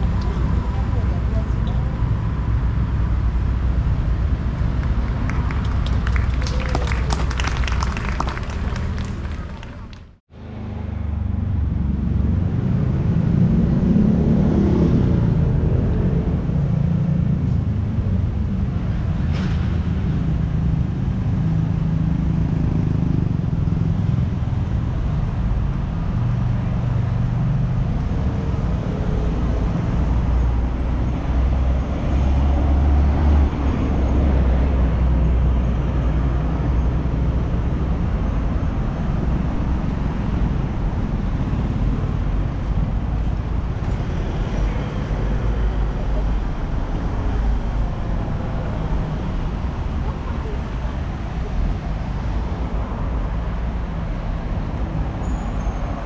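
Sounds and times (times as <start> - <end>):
rumble of passing vehicles: 0.0 - 56.0.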